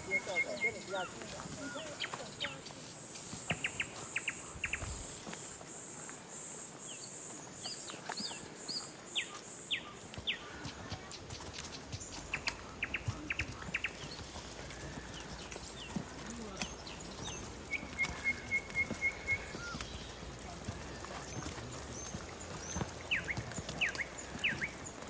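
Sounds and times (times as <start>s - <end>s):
bird chirps: 0.0s - 25.0s.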